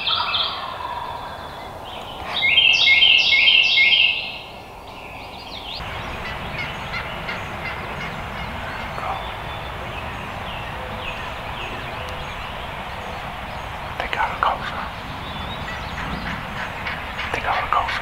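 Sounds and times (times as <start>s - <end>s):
wild turkey gobbling: 0.0s - 4.6s, 5.7s - 18.0s
songbirds chirping: 0.0s - 18.0s.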